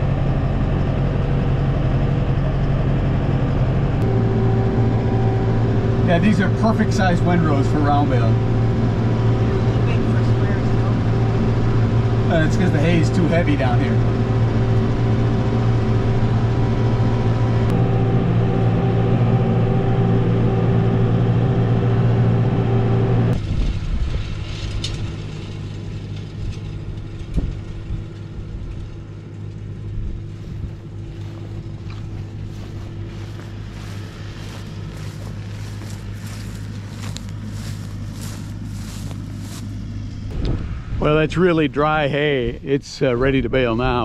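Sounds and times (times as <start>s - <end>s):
distant hum: 0.0s - 23.4s, 28.7s - 43.9s
tractor engine running: 0.0s - 44.0s.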